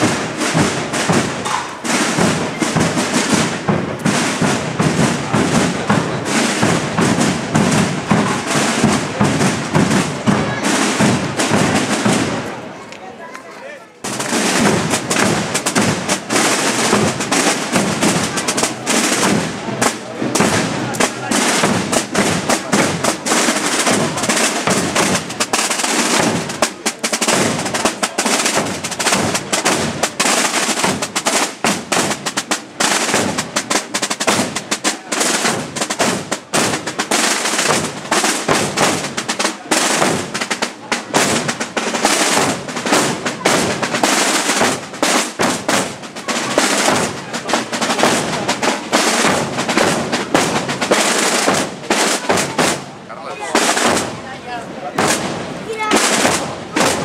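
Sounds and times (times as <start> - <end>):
marching field drums: 0.0 - 57.0.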